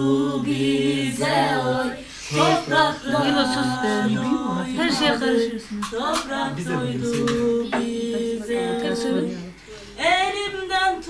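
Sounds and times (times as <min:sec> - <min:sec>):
voices singing a folk song unaccompanied: 0:00.0 - 0:11.0.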